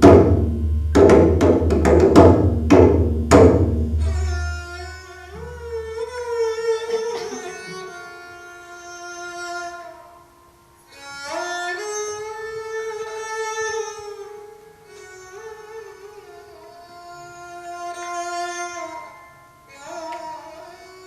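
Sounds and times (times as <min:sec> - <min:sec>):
bowed string instrument: 0:00.0 - 0:21.0.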